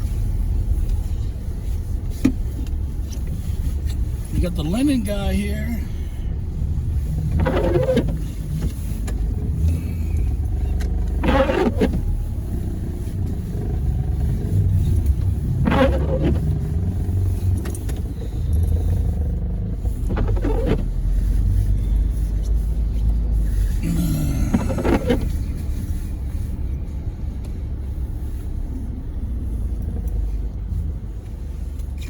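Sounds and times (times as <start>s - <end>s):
car cabin rumble: 0.0s - 32.0s.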